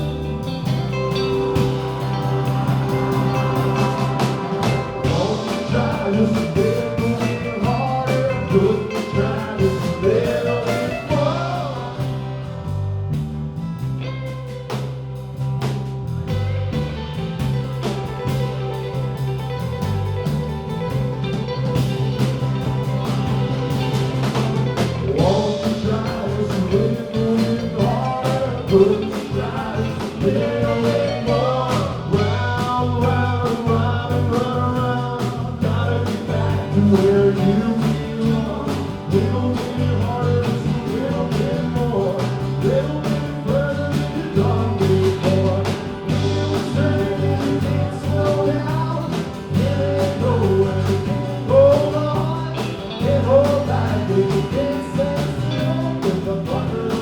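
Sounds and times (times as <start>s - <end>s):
guitar bending melodic lines: 0.0s - 12.7s, 16.2s - 57.0s
live blues-rock band: 0.0s - 57.0s.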